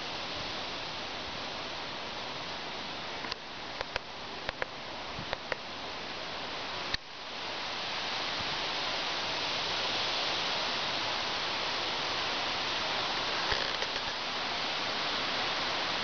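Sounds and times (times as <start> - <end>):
rain hissing: 0.0 - 16.0
wind through trees: 0.0 - 16.0.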